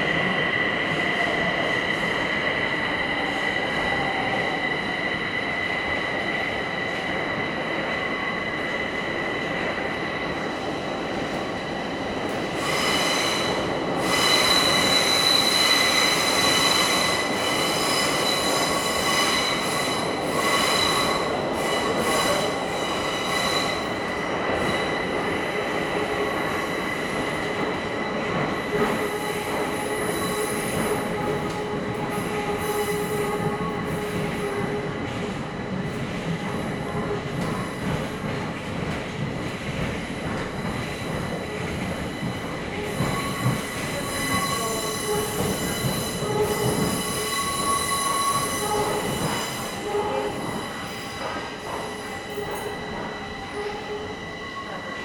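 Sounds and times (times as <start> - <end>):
train rumbling in tunnel: 0.0 - 55.0.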